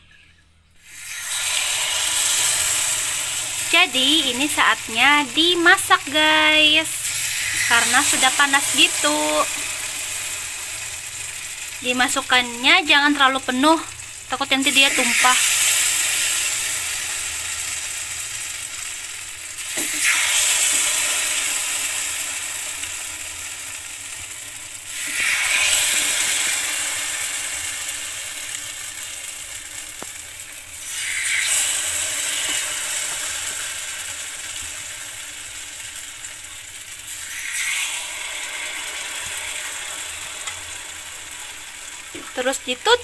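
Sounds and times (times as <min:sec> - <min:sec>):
batter sizzling in hot mould: 0:00.7 - 0:43.0.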